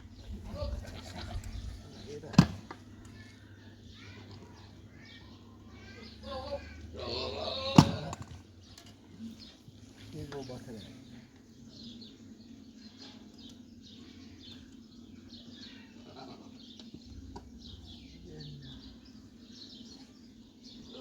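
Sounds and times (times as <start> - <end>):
birds chirping: 0.0 - 21.0
faint low hum: 0.0 - 21.0.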